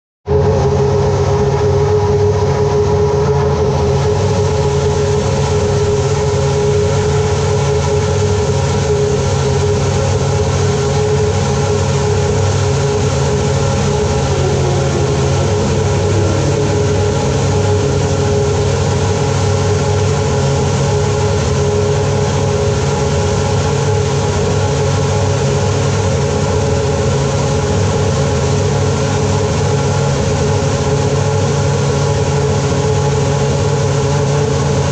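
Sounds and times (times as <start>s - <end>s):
machine whine: 0.3s - 34.9s
machinery drone: 0.3s - 34.9s.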